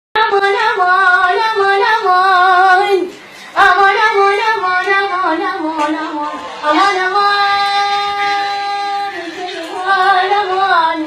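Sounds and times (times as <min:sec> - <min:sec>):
high voice singing folk song: 0:00.2 - 0:11.0.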